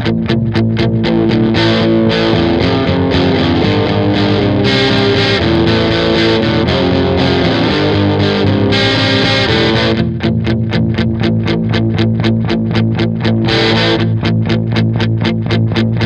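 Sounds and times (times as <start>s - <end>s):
distorted electric guitar chords: 0.0s - 16.0s.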